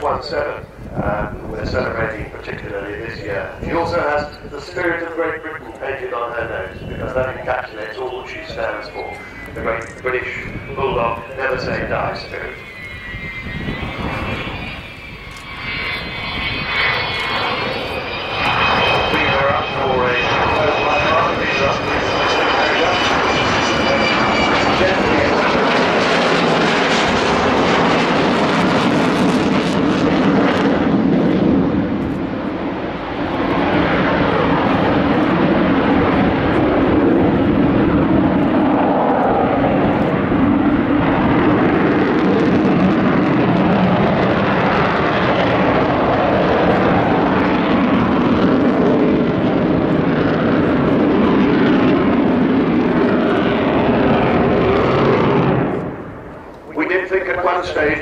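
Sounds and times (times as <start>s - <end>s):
jet aircraft roar: 0.0s - 58.0s.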